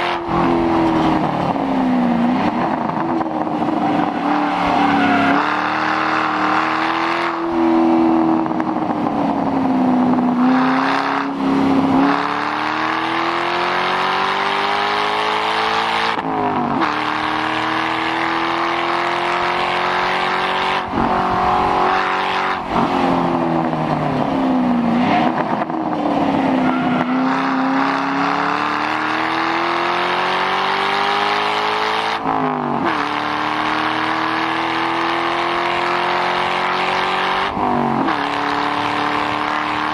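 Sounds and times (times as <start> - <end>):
car engine revving on track: 0.0 - 39.9.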